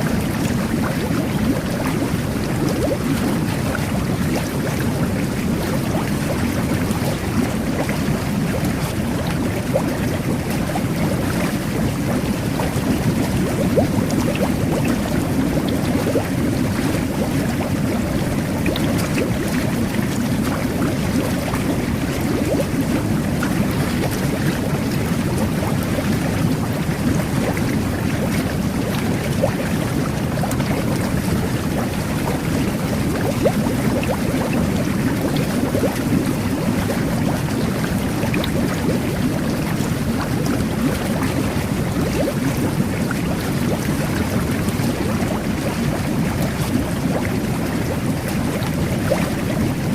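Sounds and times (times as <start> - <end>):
bubbles bursting crackle: 0.0 - 49.9
water jets churning in tub: 0.0 - 49.9.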